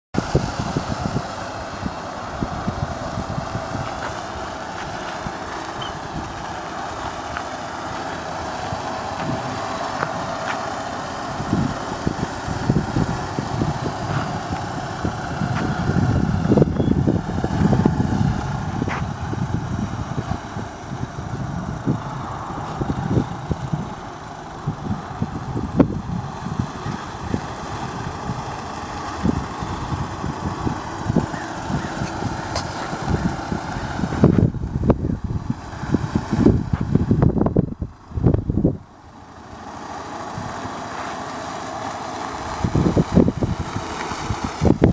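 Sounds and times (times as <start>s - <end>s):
wind on microphone: 0.2s - 7.3s, 7.9s - 38.9s, 42.5s - 44.9s
golf cart motor: 0.2s - 44.9s.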